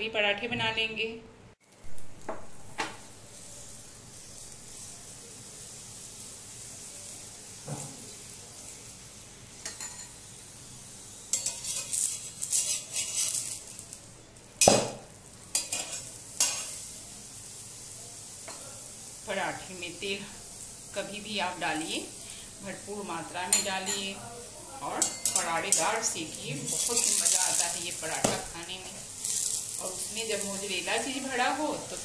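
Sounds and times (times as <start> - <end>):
flatbread sizzling in oil: 1.6 - 32.0.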